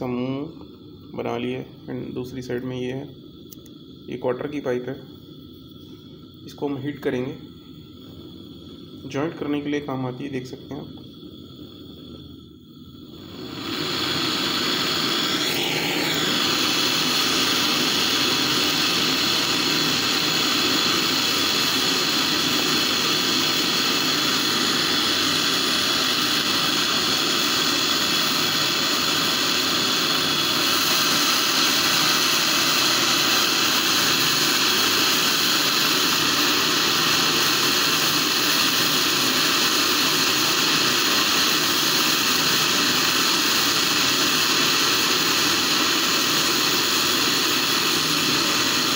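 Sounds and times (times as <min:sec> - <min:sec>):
gas torch flame hissing: 0:00.0 - 0:48.9.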